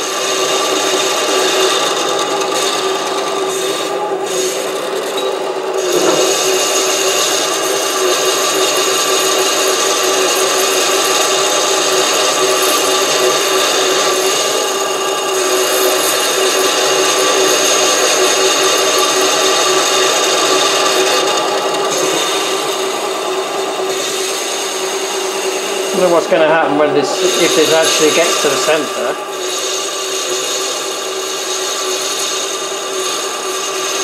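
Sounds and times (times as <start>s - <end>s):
cutting tool scraping metal: 0.0s - 34.0s
lathe running: 0.0s - 34.0s.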